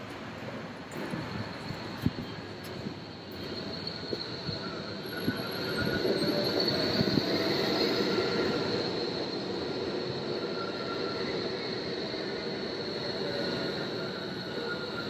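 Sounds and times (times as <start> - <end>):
tram rumbling with high tone: 0.0 - 15.0.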